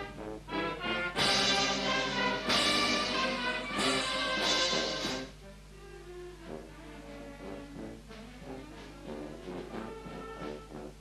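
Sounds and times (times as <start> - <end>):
brass band playing chords: 0.0 - 5.7, 6.4 - 11.0.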